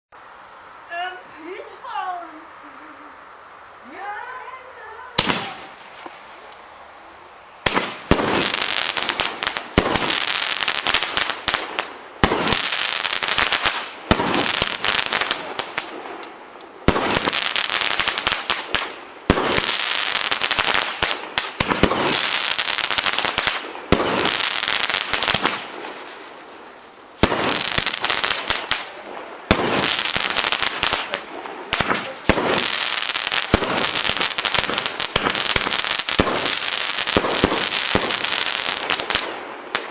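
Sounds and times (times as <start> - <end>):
dense crackling bursts: 1.8 - 39.9
firework shots: 5.2 - 6.3, 7.6 - 26.3, 27.2 - 39.9.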